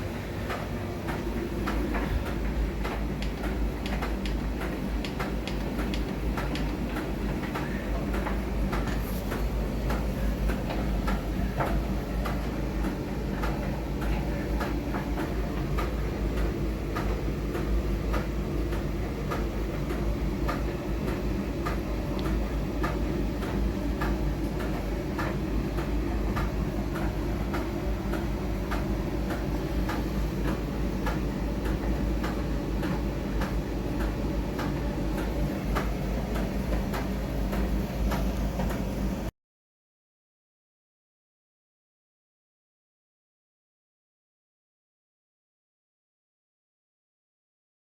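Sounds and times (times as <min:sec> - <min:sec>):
washing machine hum: 0:00.0 - 0:39.3
light regular clicks: 0:00.5 - 0:38.9.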